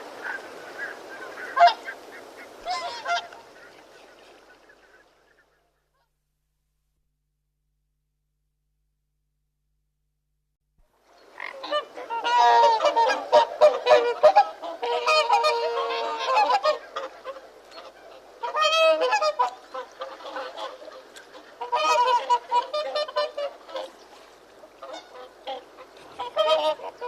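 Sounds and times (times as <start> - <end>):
flock of birds calling: 0.0 - 6.0, 11.2 - 27.0.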